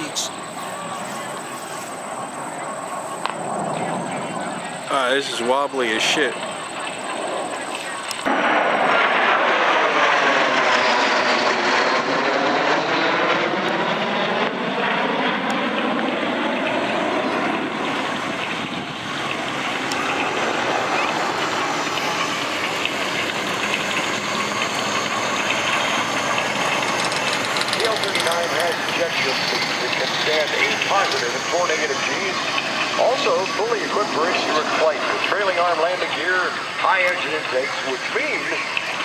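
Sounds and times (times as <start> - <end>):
jet aircraft roaring past: 0.0 - 39.0.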